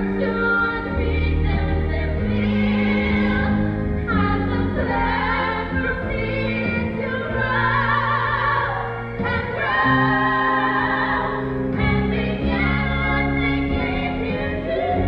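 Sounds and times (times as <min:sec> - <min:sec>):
choir singing: 0:00.0 - 0:15.0
instrumental accompaniment: 0:00.0 - 0:15.0.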